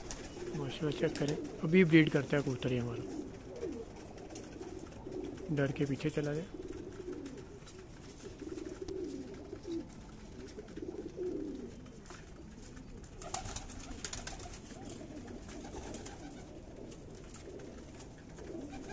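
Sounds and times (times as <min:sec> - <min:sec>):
pigeons cooing: 0:00.0 - 0:18.9.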